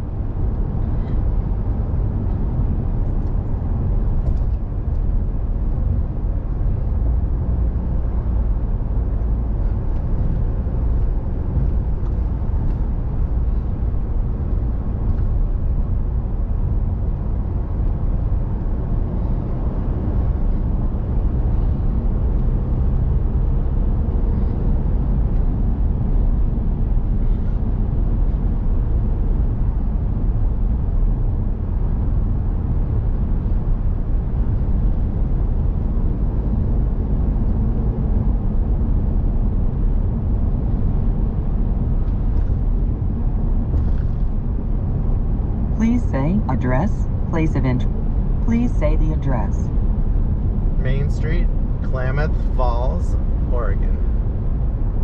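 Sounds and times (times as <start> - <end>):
car interior road noise: 0.0 - 55.0.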